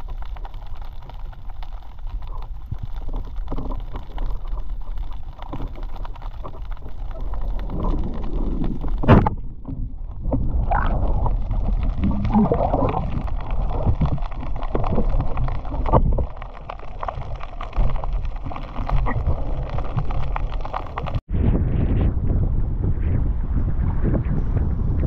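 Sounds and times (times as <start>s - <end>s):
water sloshing and gurgling: 0.0s - 21.3s.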